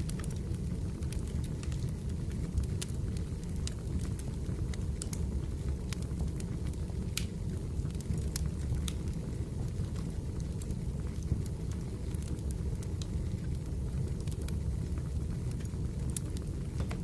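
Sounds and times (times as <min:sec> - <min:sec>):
fire rumbling: 0:00.0 - 0:17.0
logs popping and crackling: 0:00.0 - 0:17.0.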